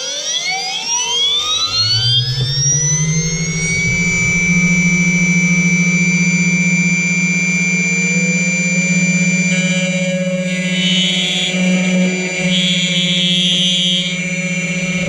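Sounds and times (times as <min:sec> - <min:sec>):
cutter motor whining: 0:00.3 - 0:15.0.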